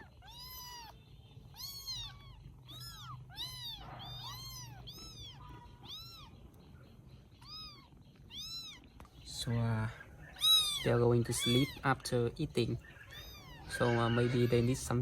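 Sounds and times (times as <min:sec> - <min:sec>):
kittens mewing: 0:00.0 - 0:15.0.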